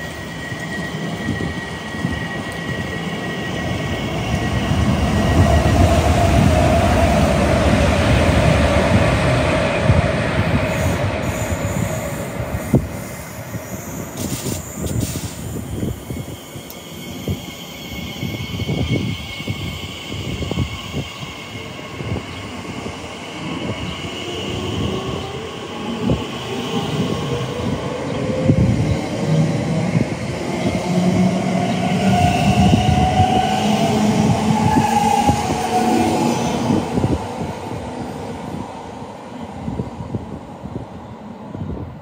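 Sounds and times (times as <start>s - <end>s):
rail and wheel noise: 0.0s - 42.0s.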